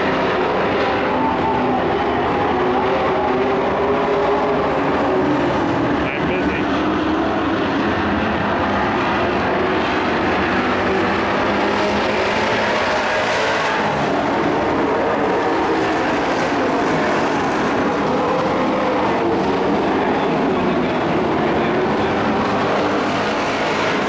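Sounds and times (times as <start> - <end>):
race truck engines roaring: 0.0 - 24.0.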